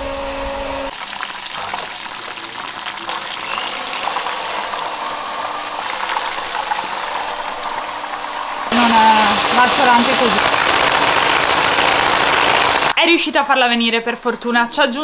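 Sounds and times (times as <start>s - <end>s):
chicken deep-frying in oil: 0.9s - 13.0s.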